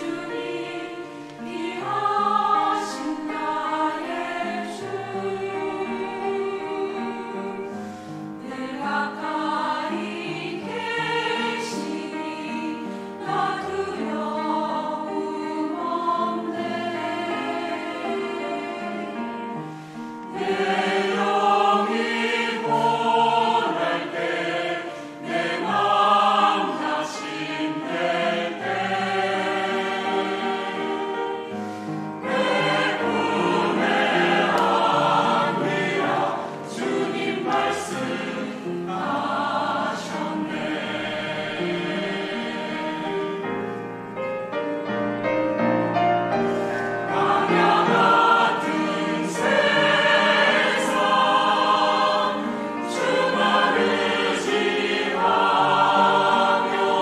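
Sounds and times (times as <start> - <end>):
mixed choir singing: 0.0 - 43.7, 46.2 - 57.0.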